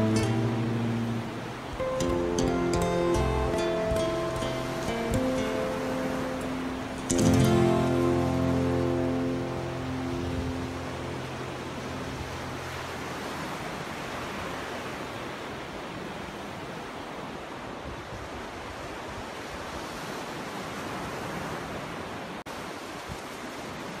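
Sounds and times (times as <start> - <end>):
small waves breaking on beach: 0.0 - 24.0.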